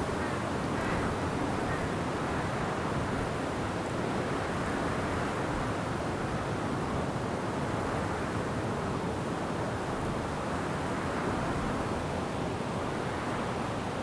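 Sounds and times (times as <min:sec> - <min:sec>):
wind blowing through trees: 0:00.0 - 0:14.0.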